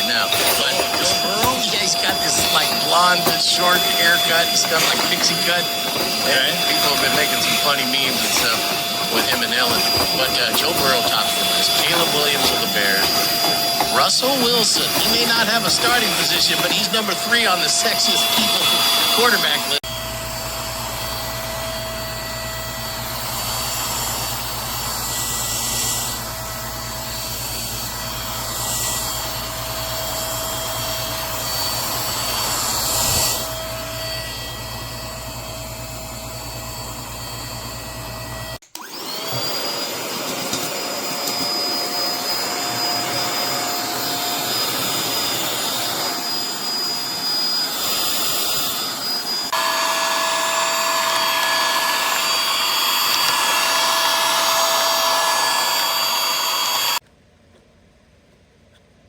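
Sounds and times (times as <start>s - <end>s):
handheld vacuum cleaner running: 0.0s - 57.0s.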